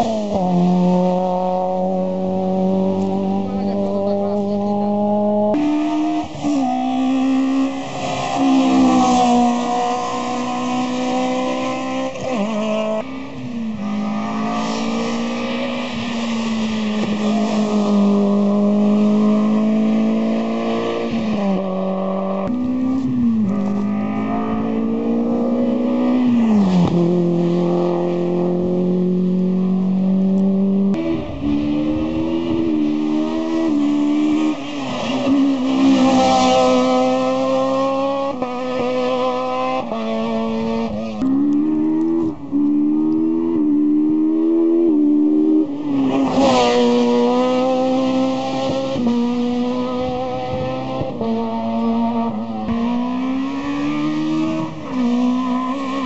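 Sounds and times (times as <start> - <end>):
rally car engines accelerating: 0.0 - 56.0.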